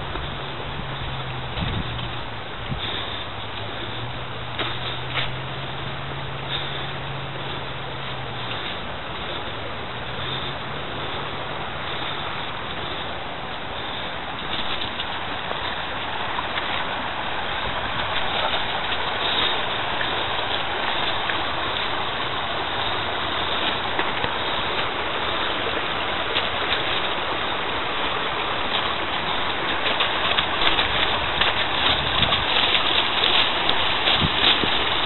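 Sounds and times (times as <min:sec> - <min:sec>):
river rushing over riffle: 0:00.0 - 0:35.0.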